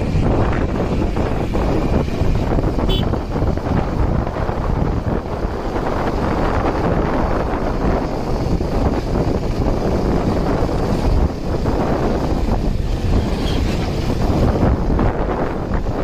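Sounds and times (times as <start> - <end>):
motorcycle engine: 0.0 - 16.0
road noise: 0.0 - 16.0
wind buffeting microphone: 0.0 - 16.0.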